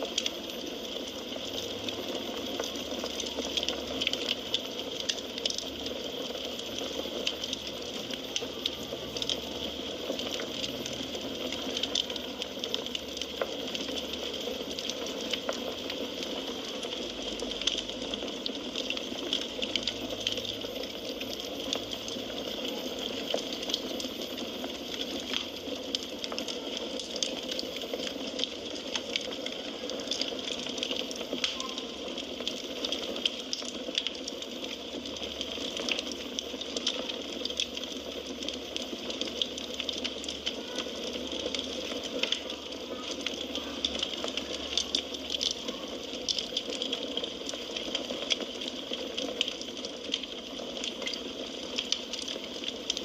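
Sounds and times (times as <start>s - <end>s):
soft fire hiss: 0.0s - 53.0s
wood fire crackling: 0.0s - 53.0s.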